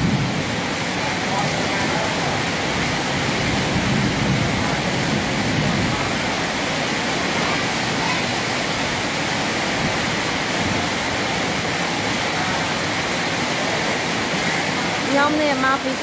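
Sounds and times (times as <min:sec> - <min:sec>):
heavy rain splashing into water: 0:00.0 - 0:16.0.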